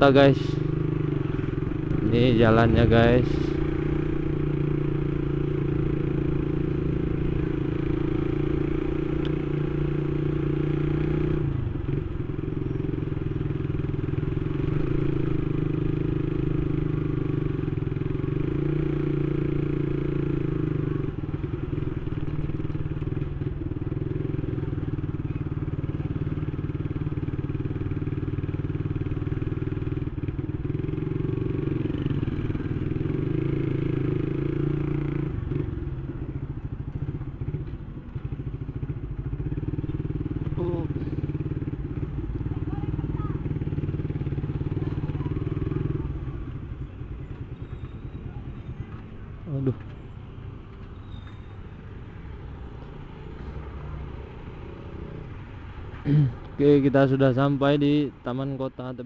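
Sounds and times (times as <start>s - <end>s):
motorcycle engine running: 0.0s - 51.3s.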